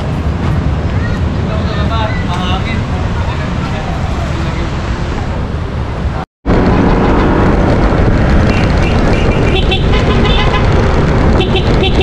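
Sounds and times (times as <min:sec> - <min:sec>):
wind rush and road noise: 0:00.0 - 0:12.0.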